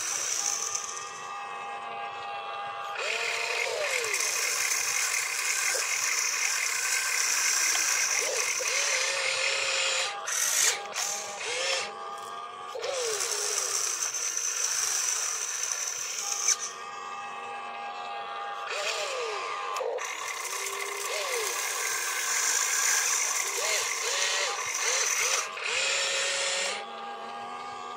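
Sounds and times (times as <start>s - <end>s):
electric motors whining: 0.0s - 27.9s.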